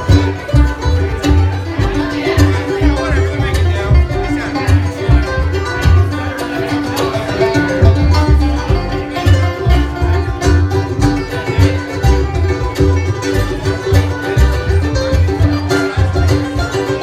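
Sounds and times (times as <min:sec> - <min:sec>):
banjo picking: 0:00.0 - 0:17.0
electric guitars: 0:00.0 - 0:17.0
upright bass: 0:00.0 - 0:17.0.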